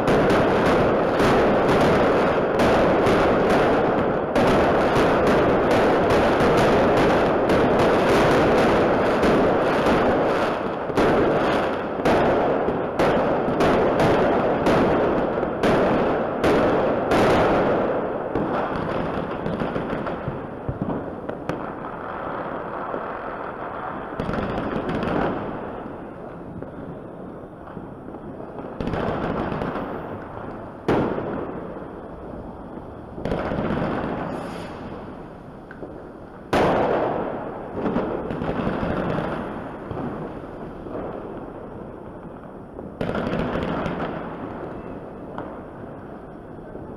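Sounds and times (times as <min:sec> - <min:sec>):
fireworks bangs: 0:00.0 - 0:46.9
fireworks crackle and rumble: 0:00.0 - 0:46.9.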